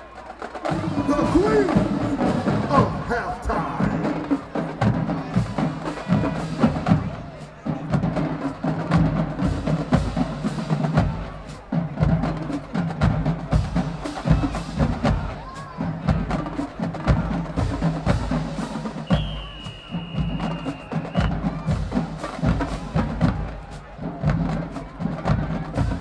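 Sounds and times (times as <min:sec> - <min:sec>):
snare and bass drum cadence: 0:00.0 - 0:26.0.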